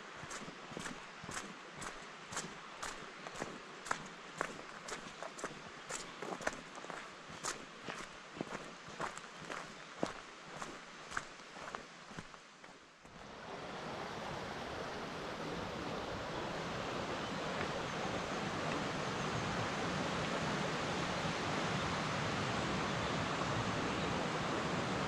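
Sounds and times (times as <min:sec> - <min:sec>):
fast river water rushing: 0:00.0 - 0:25.0.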